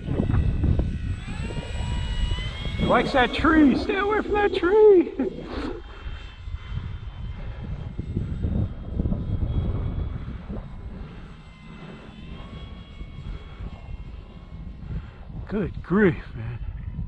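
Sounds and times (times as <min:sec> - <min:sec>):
model plane motor whine: 0:00.0 - 0:17.0
wind buffeting microphone: 0:00.0 - 0:17.0.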